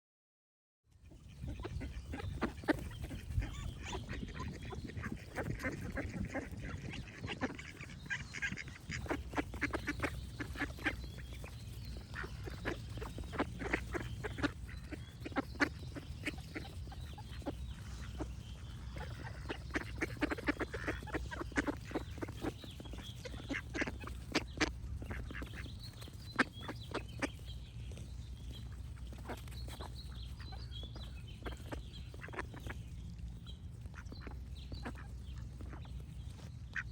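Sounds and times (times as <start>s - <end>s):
faint birds singing: 0.9s - 36.9s
ducks quacking: 1.0s - 36.9s
steady low rumble: 1.0s - 36.9s.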